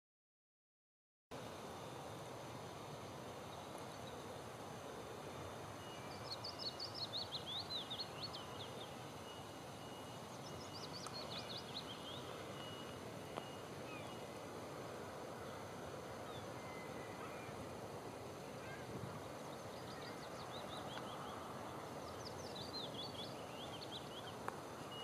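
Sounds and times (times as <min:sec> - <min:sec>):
background hiss: 0:01.3 - 0:25.0
songbird singing: 0:03.0 - 0:25.0.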